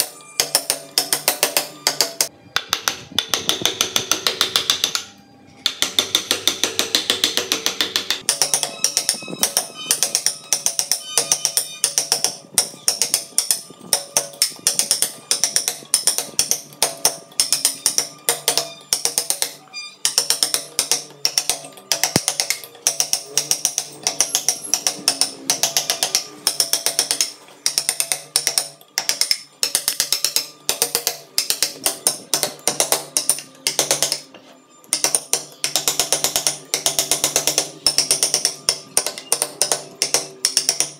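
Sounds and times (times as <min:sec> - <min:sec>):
mallet tapping chisel into wood: 0:00.0 - 0:34.3, 0:34.9 - 0:40.9
background music: 0:00.0 - 0:40.9.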